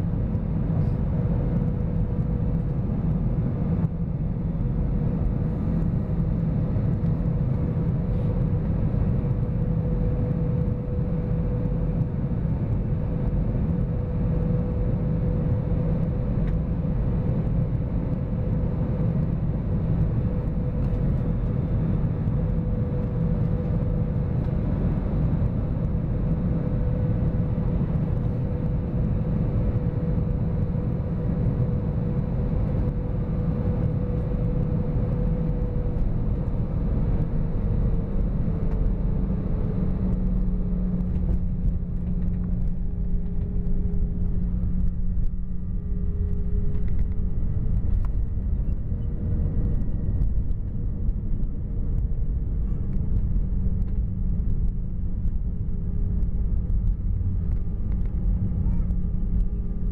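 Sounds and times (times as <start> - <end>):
airflow rushing in cabin: 0.0 - 59.9
jet engine hum and whine: 0.0 - 59.9.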